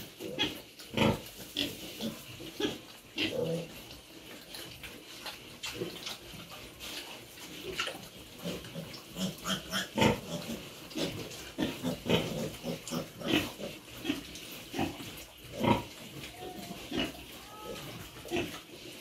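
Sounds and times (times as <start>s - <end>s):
pigs grunting and squealing: 0.0s - 19.0s.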